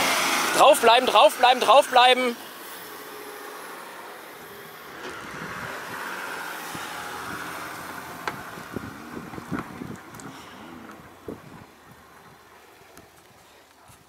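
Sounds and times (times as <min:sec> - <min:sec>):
car engine under load: 0:00.0 - 0:14.0.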